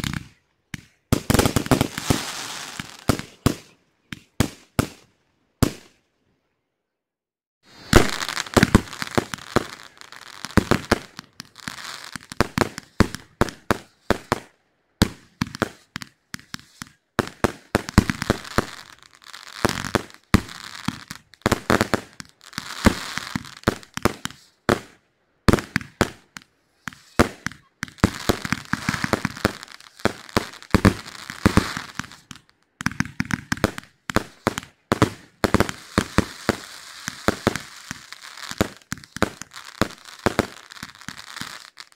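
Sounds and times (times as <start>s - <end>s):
firework crackling: 0.0s - 5.9s, 7.7s - 41.9s.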